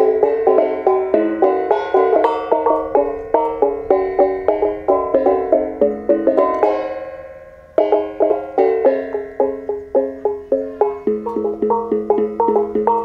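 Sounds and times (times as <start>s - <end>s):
small tuned gongs melody: 0.0s - 13.0s.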